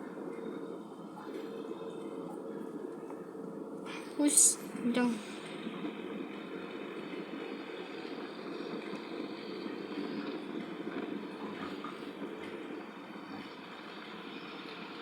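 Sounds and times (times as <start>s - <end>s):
bus engine rumble: 0.0s - 15.0s
road noise: 0.0s - 15.0s.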